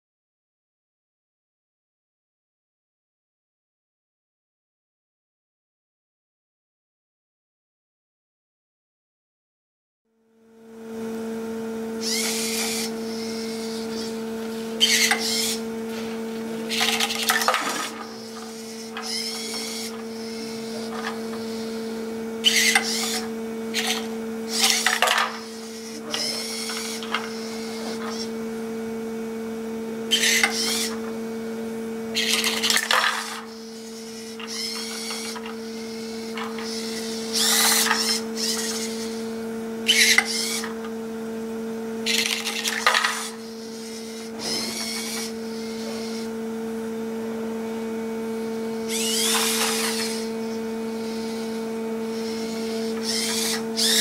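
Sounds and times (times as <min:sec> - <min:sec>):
steady electrical hum: 0:10.4 - 0:54.0
electric motors whirring: 0:10.5 - 0:54.0.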